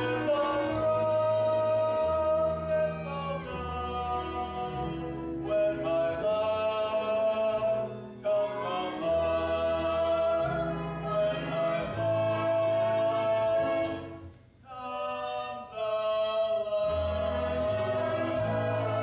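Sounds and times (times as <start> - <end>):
man and woman singing duet: 0.0 - 14.1, 14.7 - 19.0
soft instrumental accompaniment: 0.0 - 15.6, 16.6 - 19.0.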